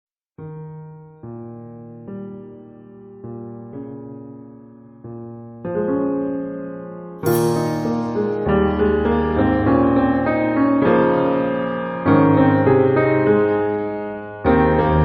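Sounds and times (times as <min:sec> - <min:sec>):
slow piano chords: 0:00.4 - 0:15.0.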